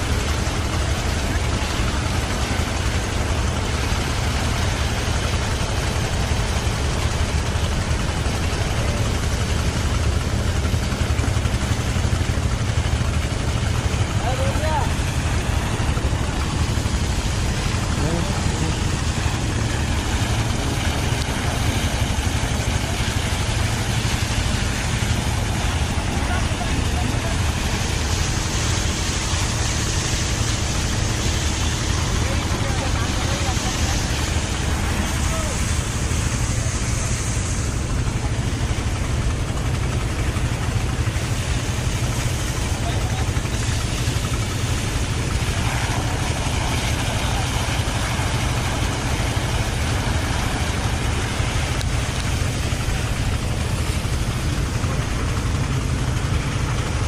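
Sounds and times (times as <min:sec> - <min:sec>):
high-pressure water jets blasting: 0:00.0 - 0:57.0
pump engine running: 0:00.0 - 0:57.0.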